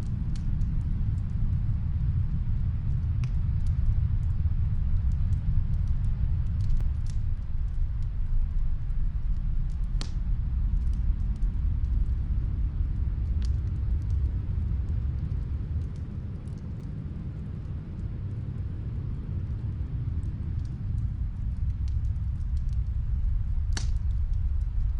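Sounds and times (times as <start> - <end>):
low rumble of wind: 0.0 - 24.9
wood fire crackling: 0.0 - 24.9.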